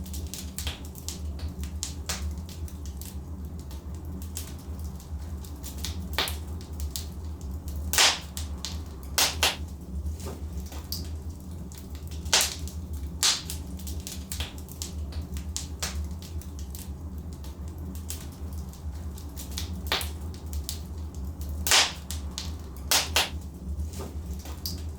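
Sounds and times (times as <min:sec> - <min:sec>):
burning logs crackling: 0:00.0 - 0:24.9
fire pops: 0:00.0 - 0:24.9
low fire rumble: 0:00.0 - 0:24.9.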